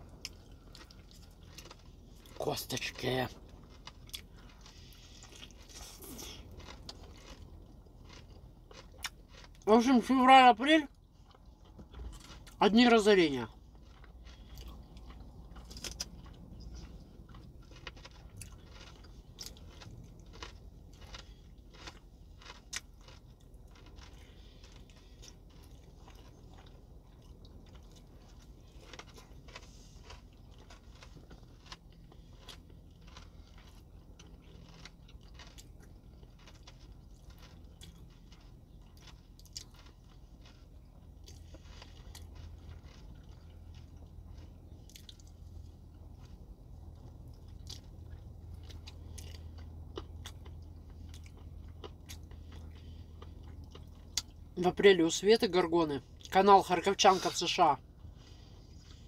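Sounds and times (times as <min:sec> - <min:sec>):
person gnawing meat off bone: 0:00.0 - 0:09.7, 0:13.3 - 0:54.6
steady low hum: 0:00.0 - 0:59.0.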